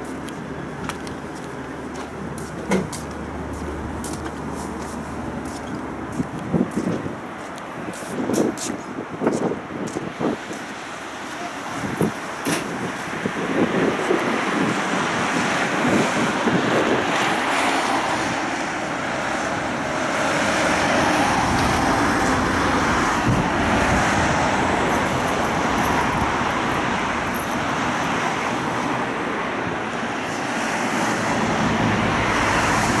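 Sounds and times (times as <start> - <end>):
road traffic passing: 0.0 - 33.0
tram running noise: 0.0 - 33.0.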